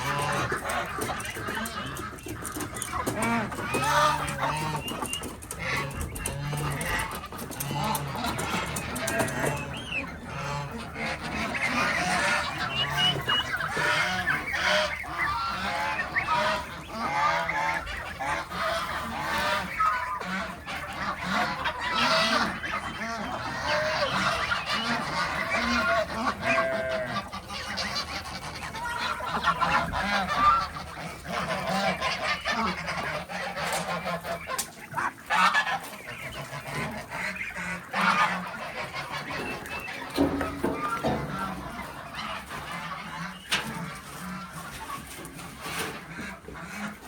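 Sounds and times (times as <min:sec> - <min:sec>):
geese honking: 0:00.0 - 0:47.0.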